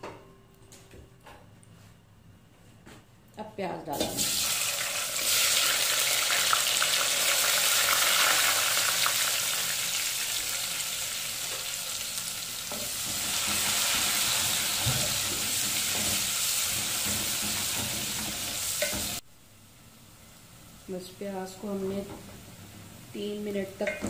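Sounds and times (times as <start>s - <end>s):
onions sizzling in hot oil: 4.0s - 24.0s.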